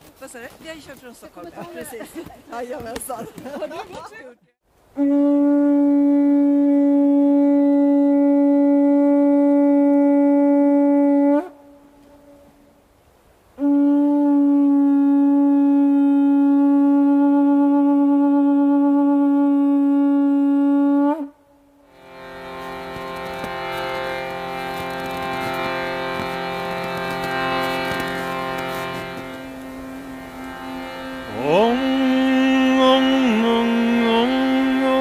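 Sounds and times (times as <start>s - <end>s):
horn blowing long notes: 4.9s - 12.8s, 13.6s - 35.0s.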